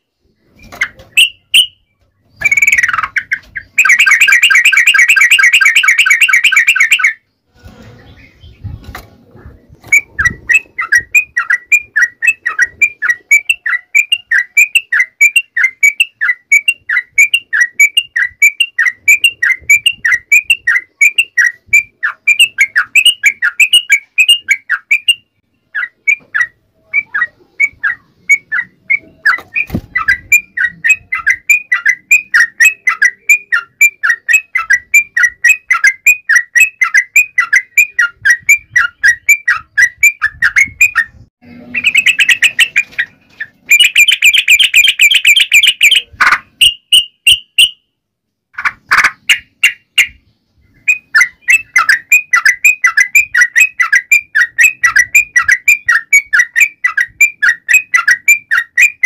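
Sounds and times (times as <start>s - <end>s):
bulbul chirping: 0.3s - 7.3s, 9.8s - 47.9s, 48.6s - 59.0s.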